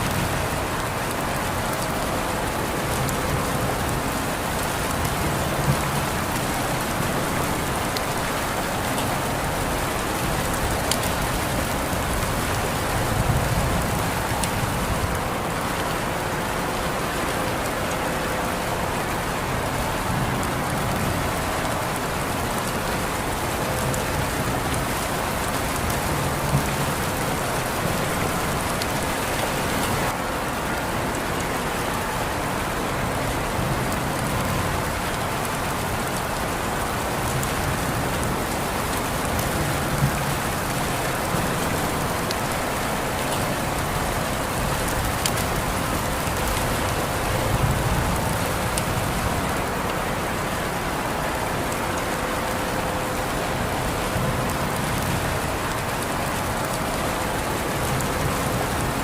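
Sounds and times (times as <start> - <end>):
raindrops ticking: 0.0 - 59.0
steady rain hiss: 0.0 - 59.0.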